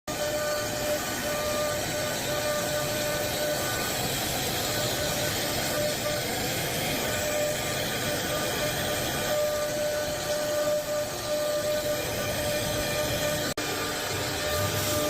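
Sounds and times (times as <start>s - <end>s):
mid-pitched whine: 0.1s - 15.0s
woodworking machine hissing: 0.1s - 15.0s.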